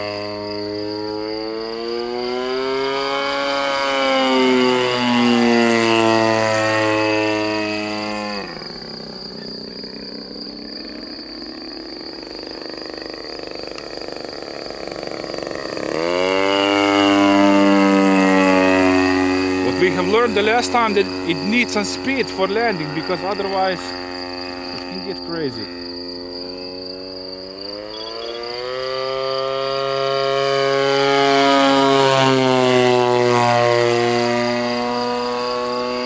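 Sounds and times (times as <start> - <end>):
model plane engine buzzing: 0.0 - 36.0.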